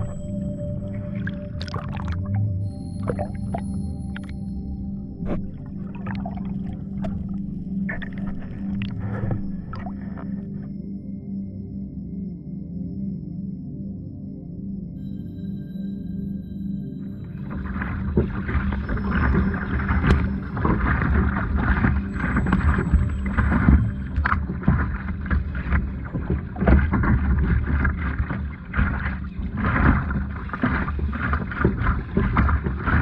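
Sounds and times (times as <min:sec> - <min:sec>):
water sloshing and splashing: 0:00.0 - 0:10.7, 0:17.1 - 0:33.0.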